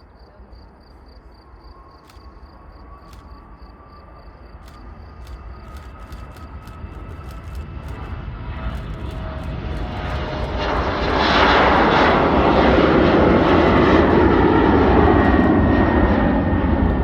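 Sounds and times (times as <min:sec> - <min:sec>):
jet engines rushing overhead: 0:00.2 - 0:17.0
high jet whine: 0:01.4 - 0:17.0.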